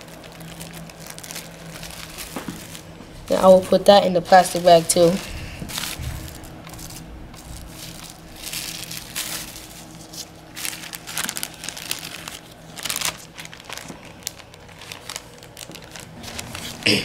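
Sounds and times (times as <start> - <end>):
plastic wrap and bag crinkling: 0.0 - 17.0.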